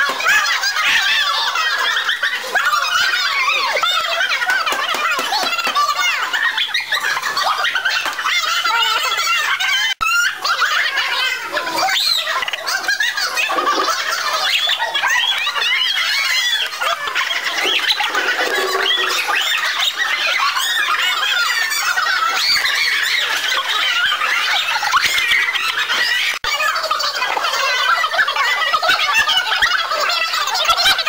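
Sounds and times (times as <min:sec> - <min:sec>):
children shrieking and shouting: 0:00.0 - 0:31.0.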